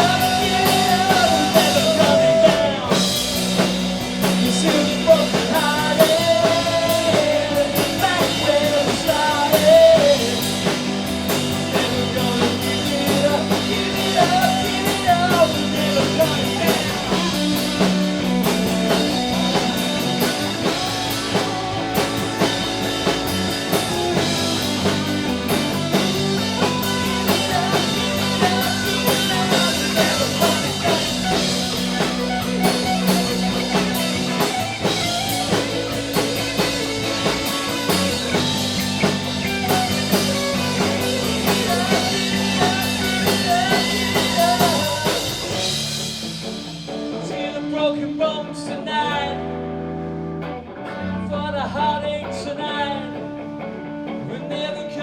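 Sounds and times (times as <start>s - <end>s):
drum kit: 0.0s - 48.2s
bass guitar: 0.0s - 55.0s
electric guitar: 0.0s - 55.0s.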